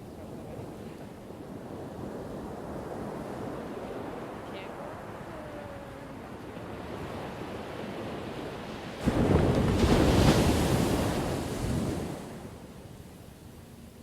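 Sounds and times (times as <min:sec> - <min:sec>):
ocean waves crashing: 0:00.0 - 0:13.4.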